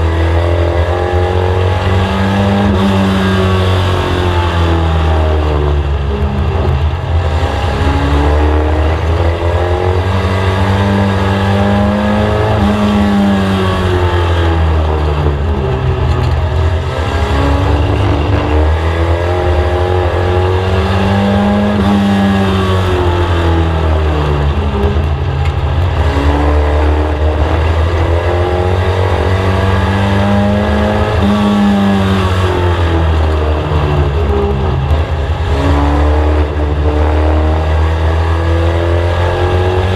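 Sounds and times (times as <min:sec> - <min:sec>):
race car engine revving: 0:00.0 - 0:39.9
steady low drone: 0:03.4 - 0:39.9.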